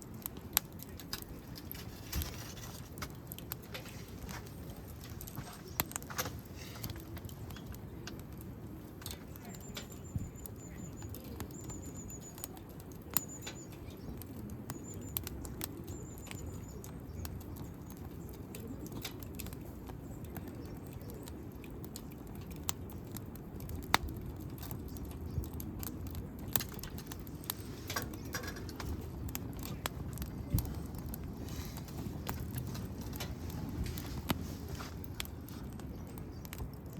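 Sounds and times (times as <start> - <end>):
campfire crackling and popping: 0.0 - 36.9.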